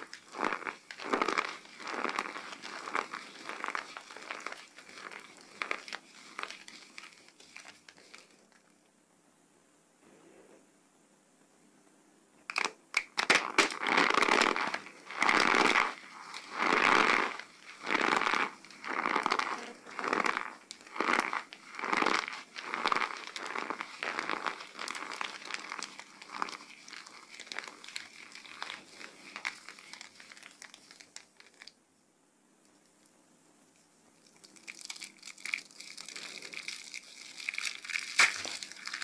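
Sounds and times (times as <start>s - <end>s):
soap crunching in hands: 0.0s - 8.6s, 12.5s - 31.7s, 34.2s - 39.0s.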